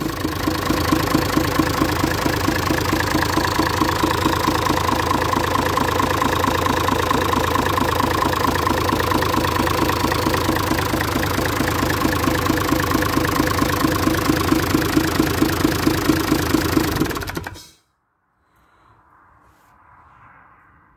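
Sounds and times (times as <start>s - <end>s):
diesel engine running: 0.0s - 17.7s.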